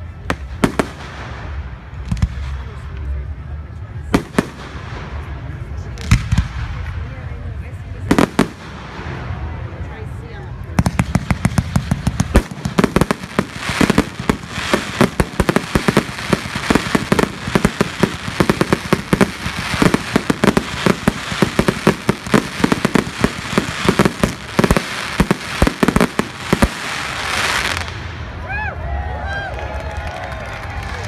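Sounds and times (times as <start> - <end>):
fireworks bangs and crackling: 0.0 - 28.4.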